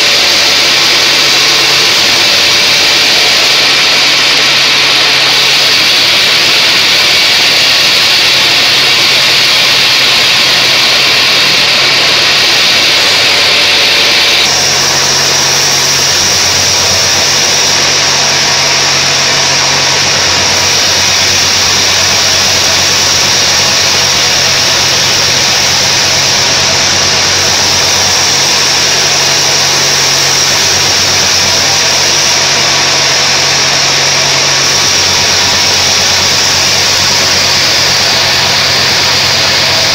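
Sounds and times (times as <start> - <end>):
bandsaw blade hissing through wood: 0.0 - 39.9
saw motor hum: 0.0 - 39.9.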